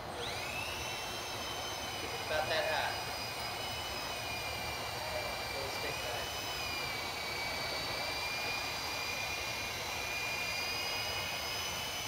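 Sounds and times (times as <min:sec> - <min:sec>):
toy helicopter rotors whining: 0:00.0 - 0:12.0.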